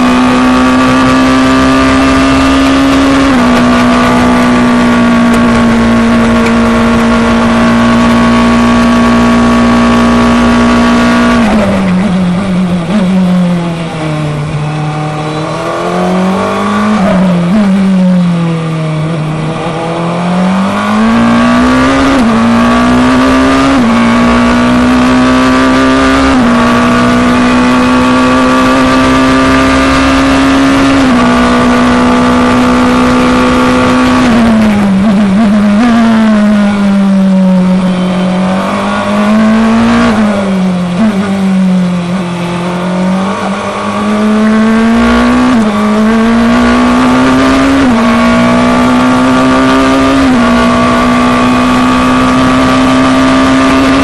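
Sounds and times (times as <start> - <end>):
gear upshifts: 0.0 - 54.0
racing car engine at high revs: 0.0 - 54.0.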